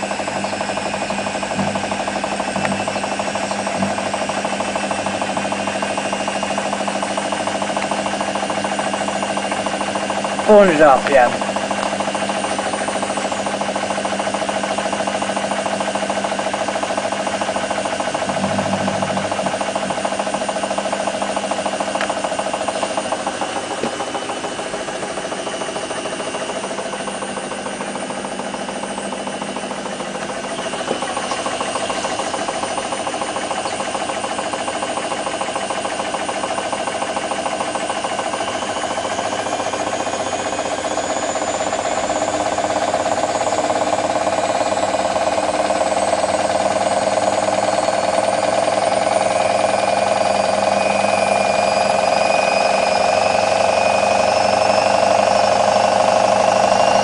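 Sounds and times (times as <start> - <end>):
washing machine drum rumble: 0.0 - 10.6, 11.4 - 50.4
washing machine motor whine: 0.0 - 57.0.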